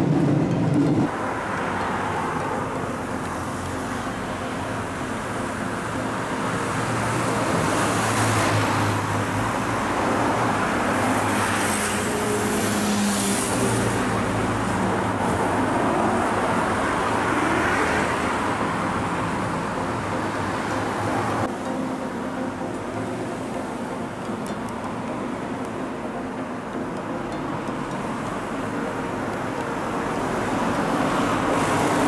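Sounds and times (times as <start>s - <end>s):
road traffic rushing: 0.0s - 32.0s.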